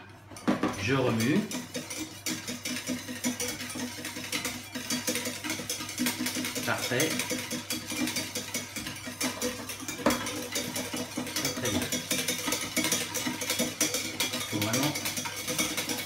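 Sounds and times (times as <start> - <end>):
utensil scraping metal saucepan: 0.4 - 16.0.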